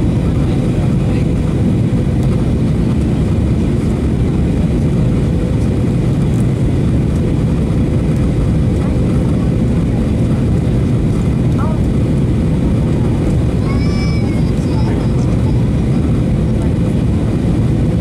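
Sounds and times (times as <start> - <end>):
airflow over fuselage: 0.0 - 18.0
jet engine low rumble: 0.0 - 18.0.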